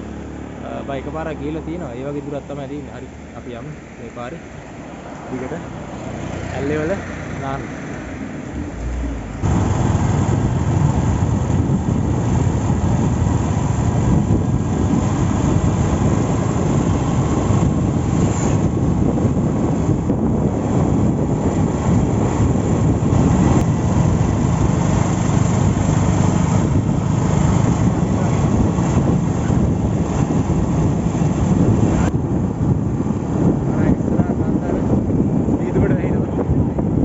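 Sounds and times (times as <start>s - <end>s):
vehicle engine and road noise: 0.0s - 37.0s
wind on microphone: 6.0s - 37.0s.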